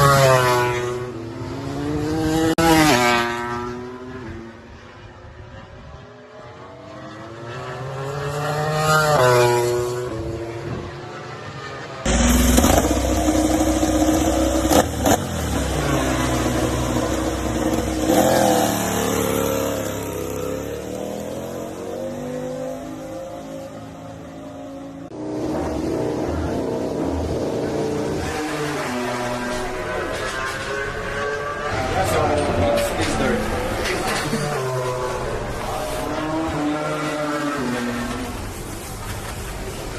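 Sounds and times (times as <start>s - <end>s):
race motorcycles passing at speed: 0.0s - 39.9s.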